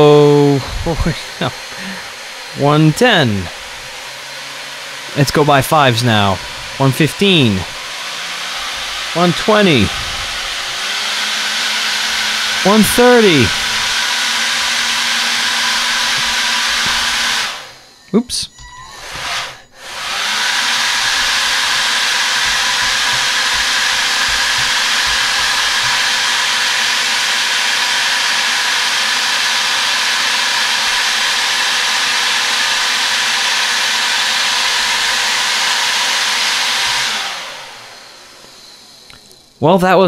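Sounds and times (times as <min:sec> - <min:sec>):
electric motor spinning propeller: 0:00.0 - 0:18.0, 0:18.6 - 0:39.6.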